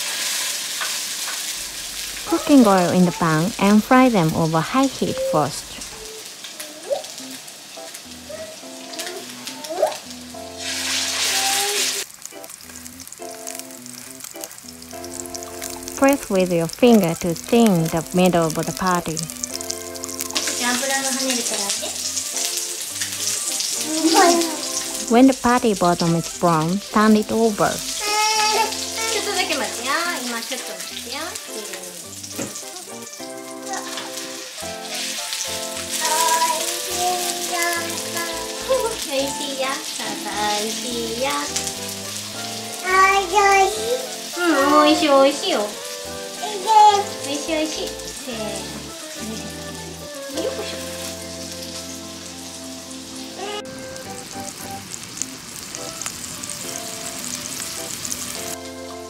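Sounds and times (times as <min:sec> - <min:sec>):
patties sizzling in a frying pan: 0:00.0 - 0:59.0
soft background music: 0:01.6 - 0:59.0.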